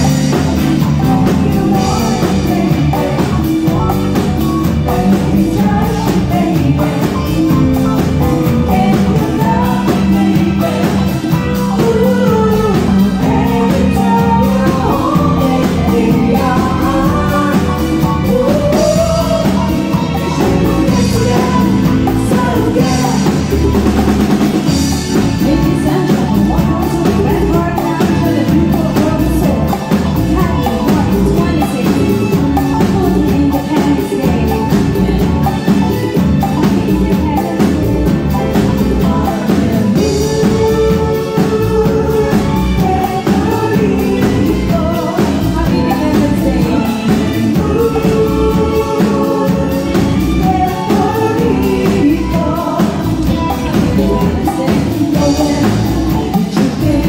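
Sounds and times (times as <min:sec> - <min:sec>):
live band playing: 0:00.0 - 0:57.0
person singing lead vocals: 0:00.0 - 0:57.0.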